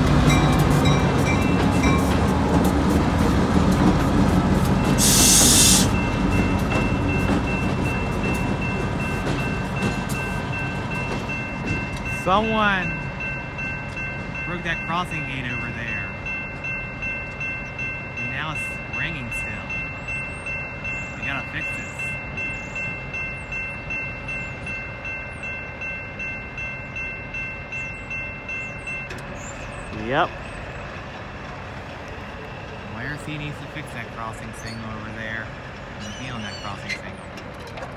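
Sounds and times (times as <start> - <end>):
crossing bell ringing: 0.0 - 37.9
diesel locomotives rumbling: 0.0 - 37.9.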